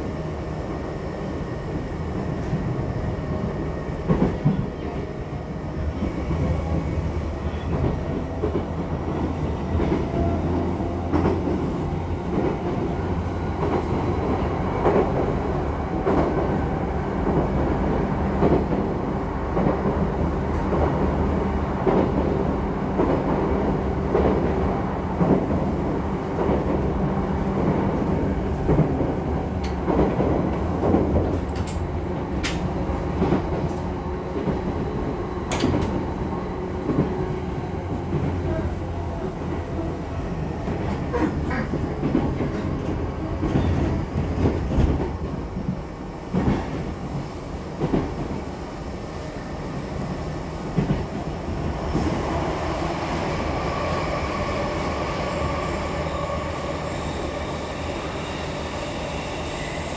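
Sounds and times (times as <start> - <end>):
train running low rumble: 0.0 - 59.9.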